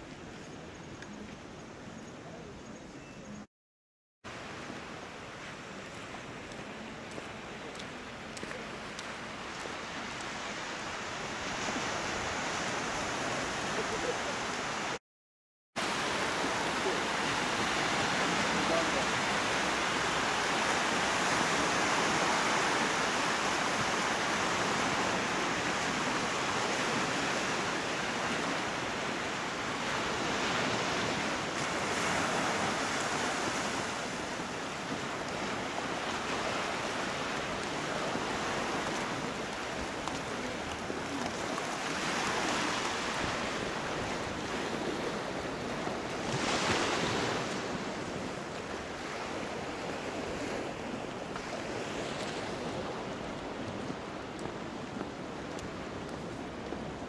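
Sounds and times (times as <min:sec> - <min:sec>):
surf washing on shore: 0:04.3 - 0:15.0, 0:15.8 - 0:57.0.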